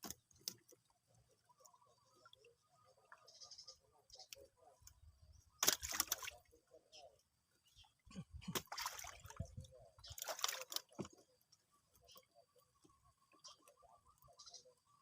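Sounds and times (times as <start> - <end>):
water splashing and sloshing: 0.0 - 14.7.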